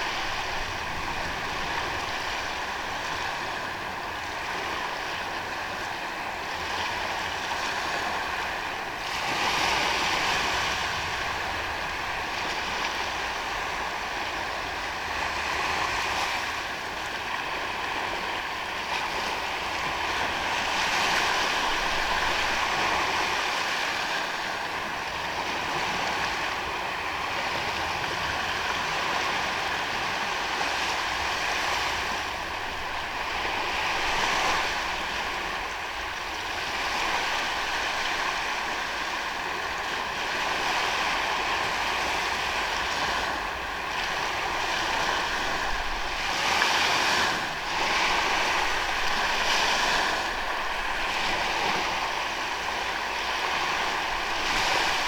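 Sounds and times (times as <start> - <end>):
sea waves washing onto beach: 0.0 - 55.0.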